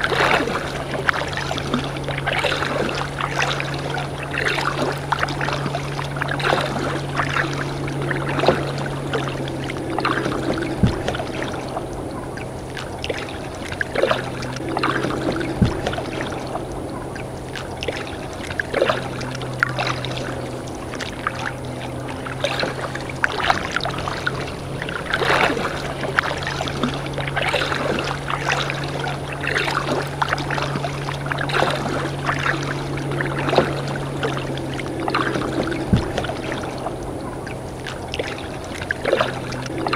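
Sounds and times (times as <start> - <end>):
paddle water splashing and dripping: 0.0 - 39.9
steady low hum: 0.0 - 39.9.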